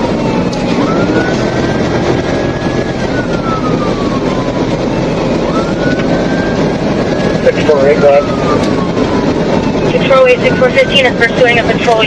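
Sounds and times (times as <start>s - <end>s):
car engine and road noise: 0.0s - 12.0s
police siren wailing: 0.0s - 12.0s.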